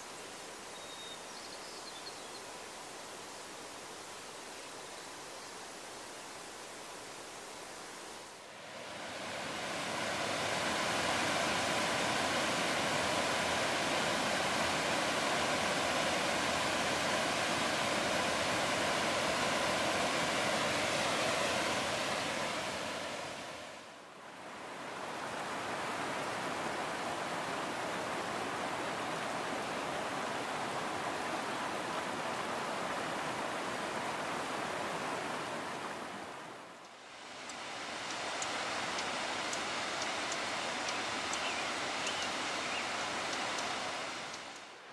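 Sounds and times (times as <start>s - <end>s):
mountain stream over boulders: 0.0s - 44.9s.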